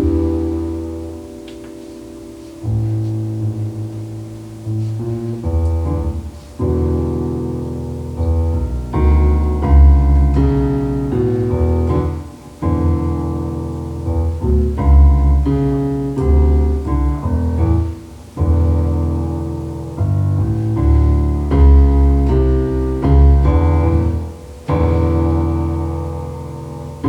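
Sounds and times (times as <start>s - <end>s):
deep piano bass notes: 0.0s - 27.0s
slow piano chords: 0.0s - 27.0s.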